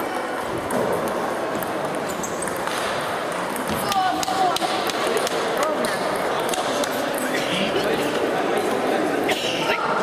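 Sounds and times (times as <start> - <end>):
busy hall background noise: 0.0 - 10.0.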